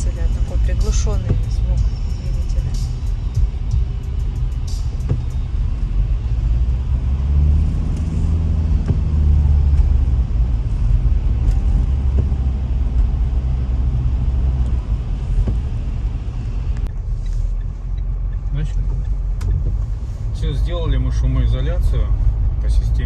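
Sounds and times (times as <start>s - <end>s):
engine and road noise in cabin: 0.0s - 23.0s.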